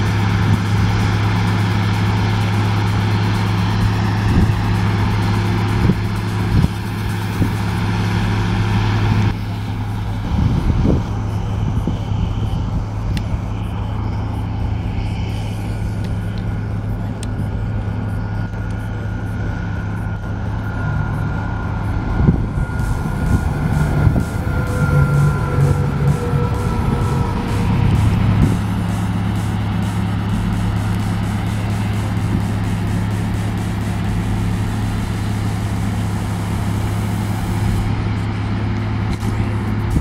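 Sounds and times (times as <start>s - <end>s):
combine harvester running: 0.0s - 40.0s
tractor engine running: 0.0s - 40.0s.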